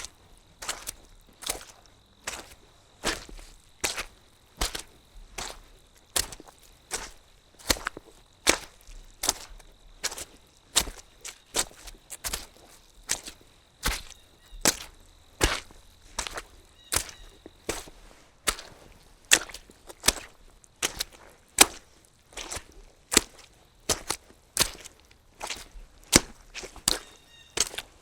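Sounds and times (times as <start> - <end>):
wet squelching footsteps: 0.0 - 28.0.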